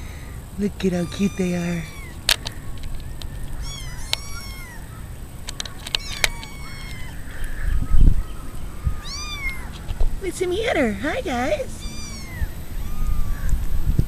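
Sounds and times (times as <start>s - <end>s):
kittens mewing: 0.0s - 2.7s, 3.3s - 8.0s, 8.7s - 9.8s, 10.6s - 13.7s.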